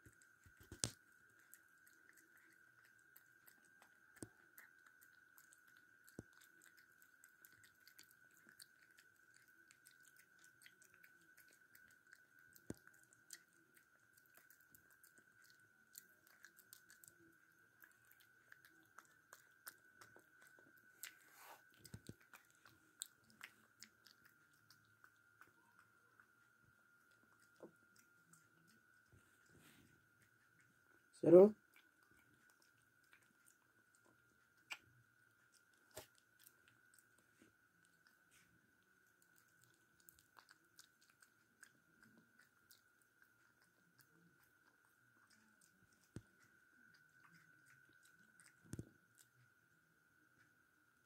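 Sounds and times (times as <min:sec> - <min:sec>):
faint high whine: 0:00.0 - 0:51.0
puppy chewing wetly: 0:00.0 - 0:51.0.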